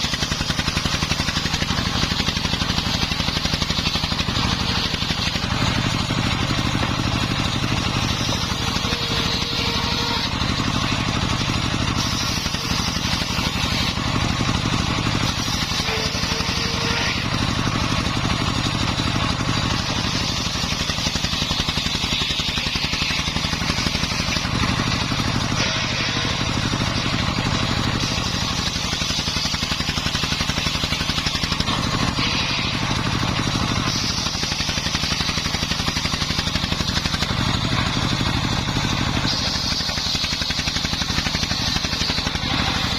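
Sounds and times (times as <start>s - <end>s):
circular saw ripping wood: 0.0s - 42.9s
diesel engine running: 0.0s - 42.9s.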